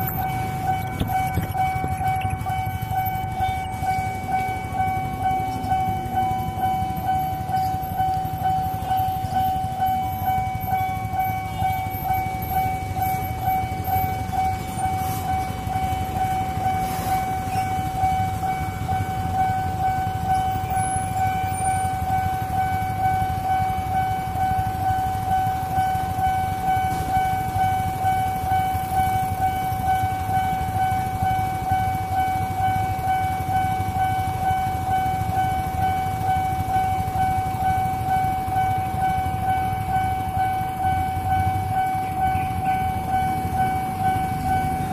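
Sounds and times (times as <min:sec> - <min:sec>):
idling engines rumbling: 0:00.0 - 0:44.9
level-crossing alarm ringing: 0:00.0 - 0:44.9.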